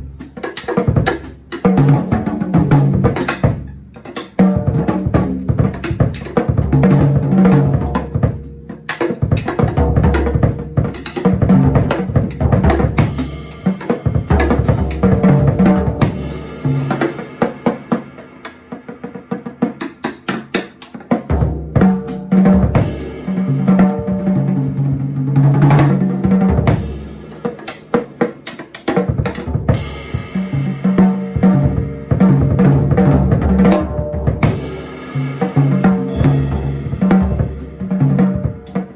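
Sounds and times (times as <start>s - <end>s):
drum kit music: 0.0s - 38.9s.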